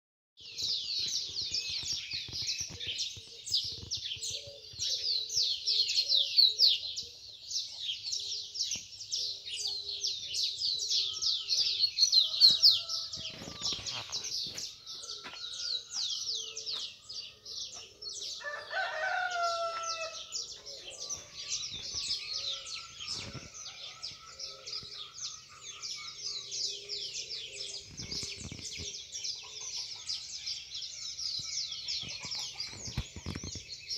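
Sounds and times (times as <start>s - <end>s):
birds chirping and trilling: 0.4s - 33.9s.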